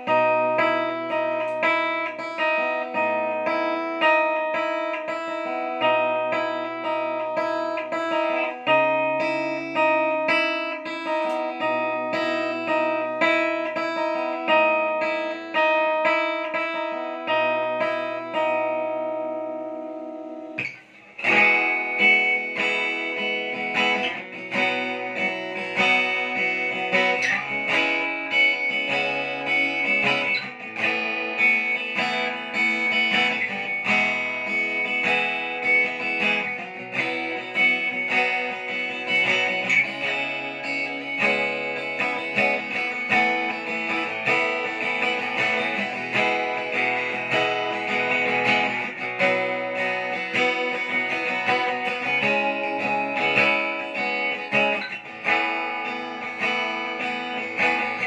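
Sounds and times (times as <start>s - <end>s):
acoustic guitar strummed: 0.0s - 58.0s.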